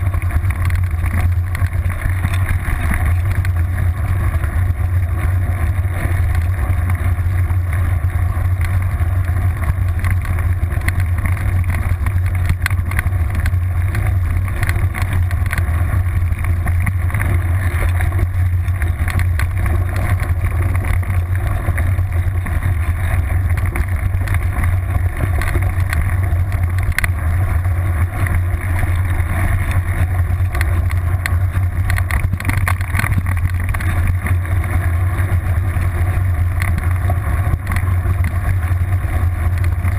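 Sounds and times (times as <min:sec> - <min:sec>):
bike rattling and knocking: 0:00.0 - 0:39.9
bike tyres rolling on gravel: 0:00.0 - 0:39.9
constant low hum: 0:00.0 - 0:39.9
wind noise: 0:00.0 - 0:39.9.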